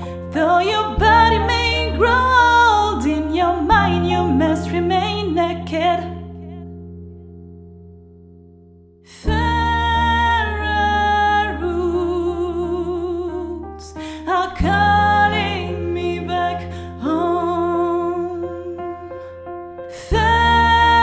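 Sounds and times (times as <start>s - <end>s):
woman singing: 0.0s - 6.6s, 9.1s - 19.2s, 19.9s - 21.0s
piano chords: 0.0s - 21.0s.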